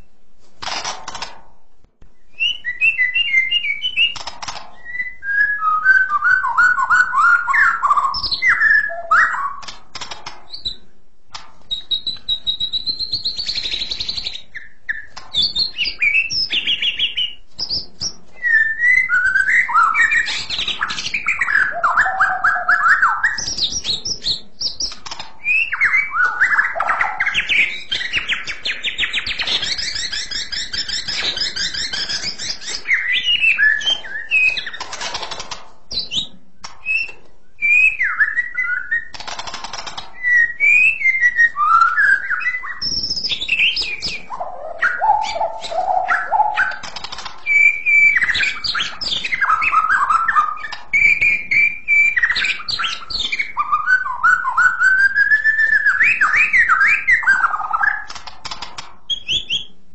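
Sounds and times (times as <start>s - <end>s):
bird singing whistled song: 2.2s - 9.8s, 10.5s - 10.8s, 11.7s - 35.1s, 35.9s - 58.2s, 59.1s - 59.8s.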